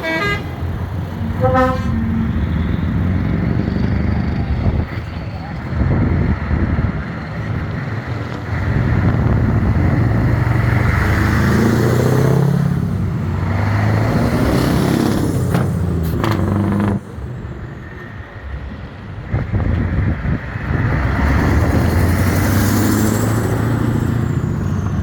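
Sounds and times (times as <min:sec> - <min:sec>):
truck engines driving past: 0:00.0 - 0:25.0.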